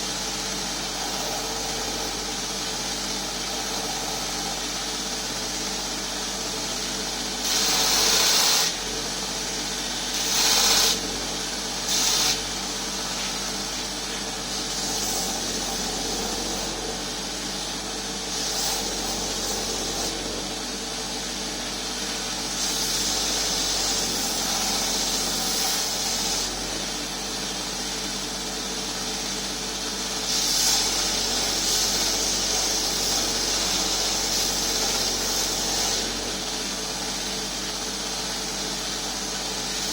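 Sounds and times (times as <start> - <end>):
power grinder running: 0.0 - 39.9.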